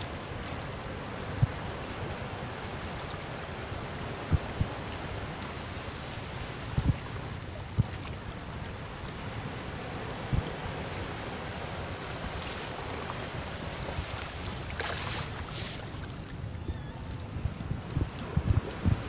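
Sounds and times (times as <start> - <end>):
waves washing among rocks: 0.0 - 16.3.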